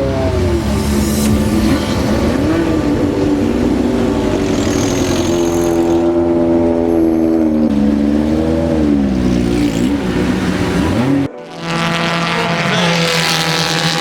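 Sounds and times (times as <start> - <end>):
race car engine accelerating: 0.0 - 14.0
steady engine note: 0.0 - 14.0.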